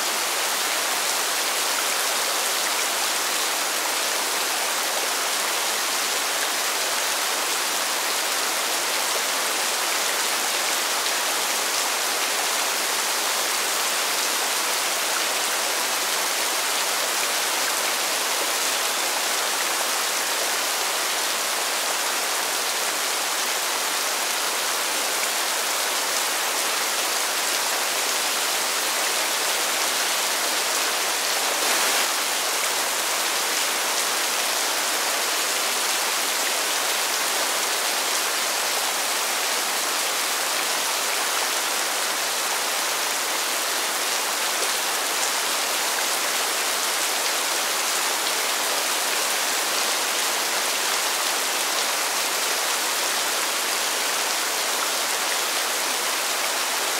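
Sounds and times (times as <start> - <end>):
rain falling on pavement: 0.0 - 56.9.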